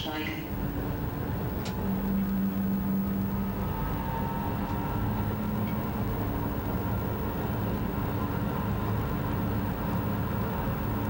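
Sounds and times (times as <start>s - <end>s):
faint steady tones: 0.0s - 11.0s
tram wheels rumbling: 0.0s - 11.0s.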